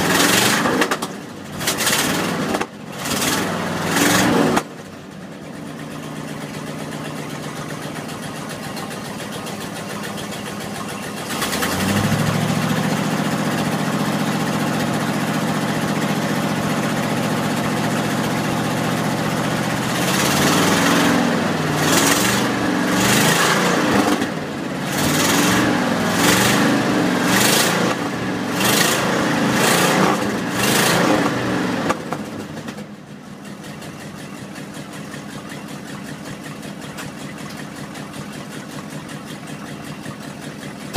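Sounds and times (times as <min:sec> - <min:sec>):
truck engine idling and revving: 0:00.0 - 0:40.9.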